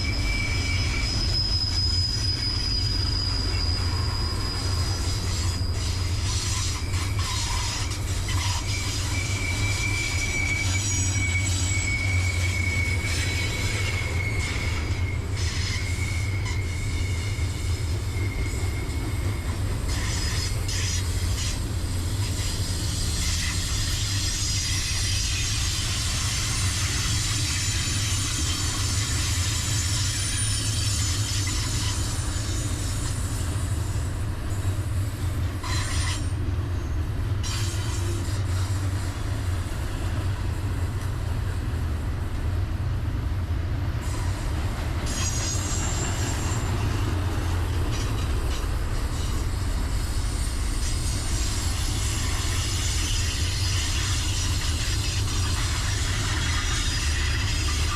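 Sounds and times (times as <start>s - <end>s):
freight train rumble: 0.0s - 57.9s
wheels squealing on rails: 0.0s - 57.9s.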